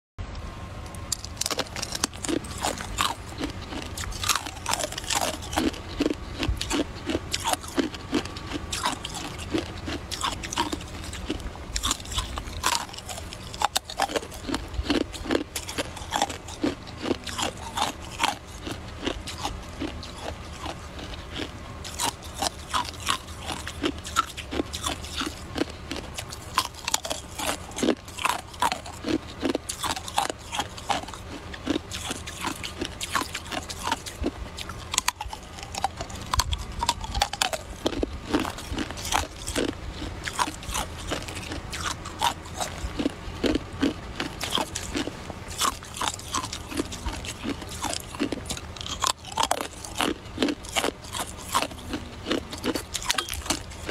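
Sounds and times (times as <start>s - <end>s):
person crunching ice: 1.1s - 53.9s.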